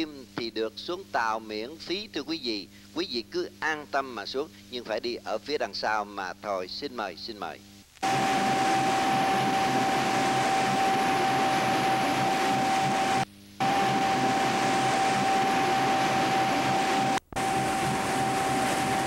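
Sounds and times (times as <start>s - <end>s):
high whine: 0.0s - 19.0s.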